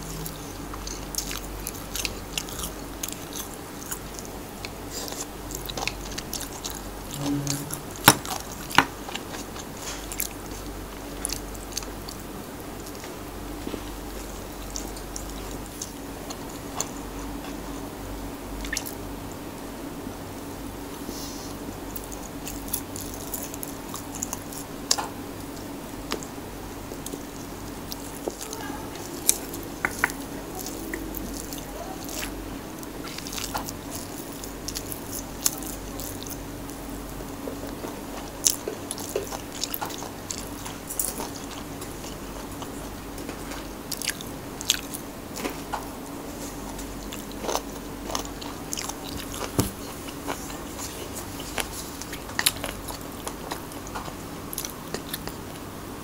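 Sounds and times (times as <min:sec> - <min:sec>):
person chewing and crunching food: 0:00.0 - 0:19.1, 0:20.9 - 0:55.7
faint steady hum: 0:00.0 - 0:56.0.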